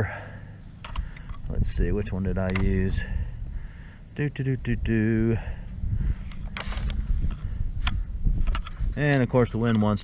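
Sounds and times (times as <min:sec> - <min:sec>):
wind buffeting microphone: 0:01.0 - 0:04.0, 0:04.6 - 0:10.0.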